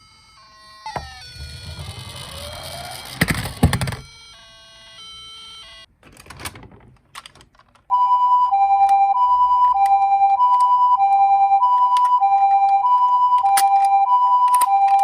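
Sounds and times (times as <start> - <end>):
two-tone ambulance siren: 0.0 - 5.9, 7.9 - 15.0.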